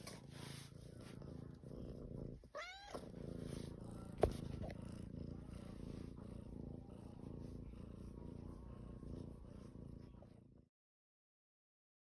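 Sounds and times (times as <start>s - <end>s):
cat purring: 0.0s - 10.7s.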